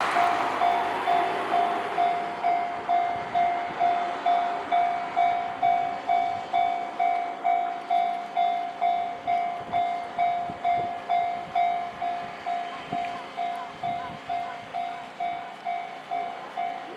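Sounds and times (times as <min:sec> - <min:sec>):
level crossing warning bell: 0:00.0 - 0:16.9.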